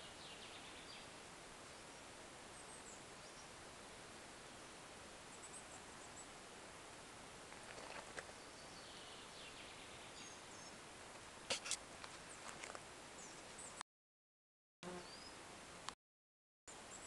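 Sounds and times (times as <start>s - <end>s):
faint background hiss: 0.0s - 13.8s, 16.7s - 17.0s.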